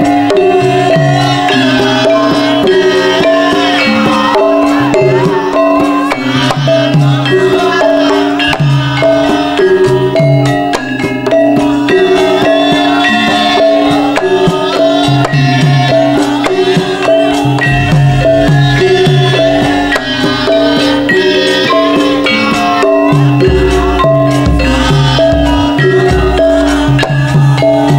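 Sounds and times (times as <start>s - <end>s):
hand drum strokes: 0.0s - 27.9s
metal-keyed instruments melody: 0.0s - 27.9s.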